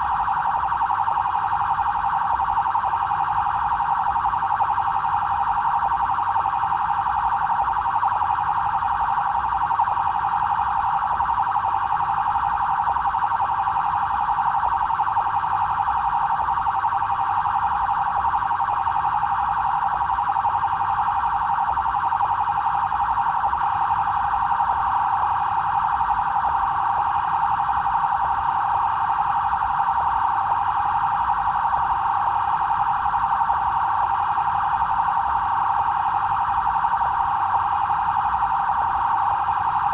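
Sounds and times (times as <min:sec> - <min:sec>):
police car electronic siren: 0:00.0 - 0:39.9.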